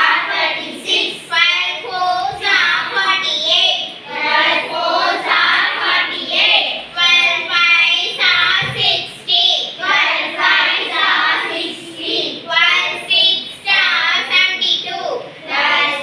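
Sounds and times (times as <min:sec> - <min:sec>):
children chanting: 0:00.0 - 0:16.0.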